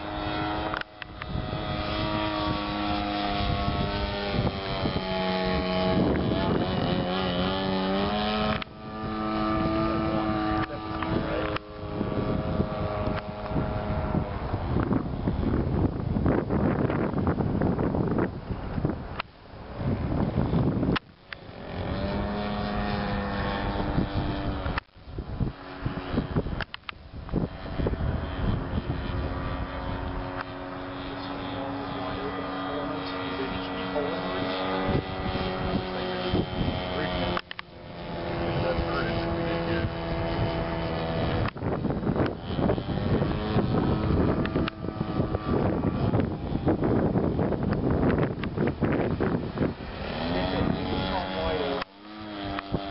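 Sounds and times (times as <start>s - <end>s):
model airplane engine drone: 0.0s - 52.9s
wind buffeting microphone: 0.0s - 52.9s.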